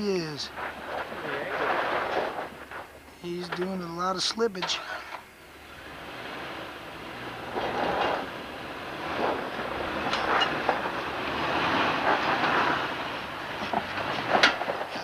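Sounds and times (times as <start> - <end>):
knocks and clatters: 0.0 - 5.2, 7.2 - 15.0
off-road vehicle engine working: 0.0 - 15.0
tires crunching over rock: 0.0 - 15.0.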